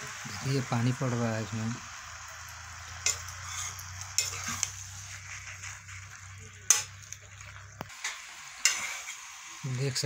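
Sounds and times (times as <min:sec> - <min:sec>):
curry sizzling in a pot: 0:00.0 - 0:10.0.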